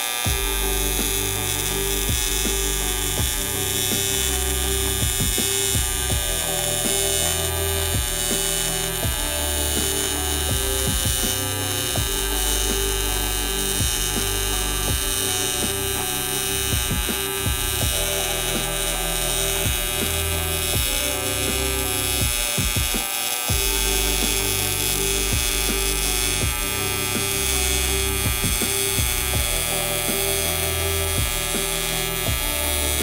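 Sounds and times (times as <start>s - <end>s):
welding arc buzzing: 0.0s - 33.0s.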